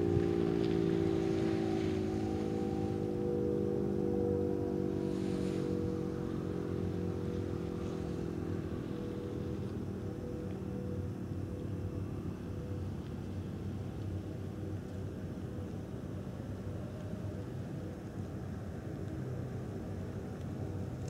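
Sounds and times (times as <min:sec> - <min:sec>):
distant warning sirens: 0:00.0 - 0:21.0.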